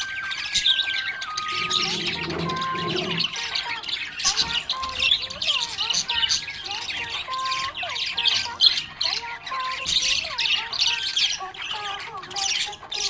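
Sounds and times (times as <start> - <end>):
budgerigars chirping and warbling: 0.0 - 13.0.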